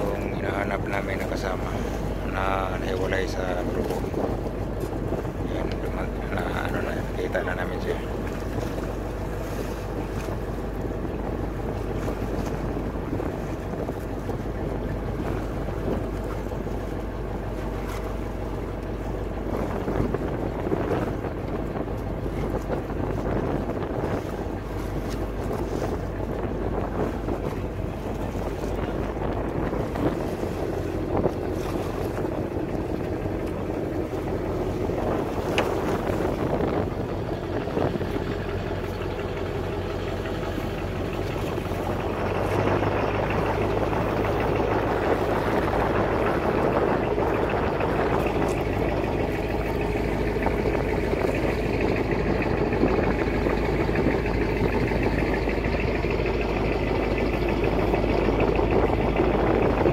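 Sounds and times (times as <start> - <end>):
boat engine drone: 0.0 - 59.9
sea water washing: 0.0 - 59.9
wind buffeting the microphone: 0.0 - 59.9.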